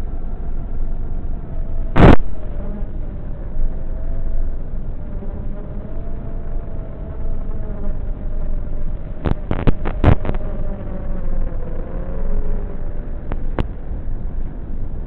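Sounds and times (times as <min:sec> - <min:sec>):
low motor buzz: 0:00.0 - 0:15.0.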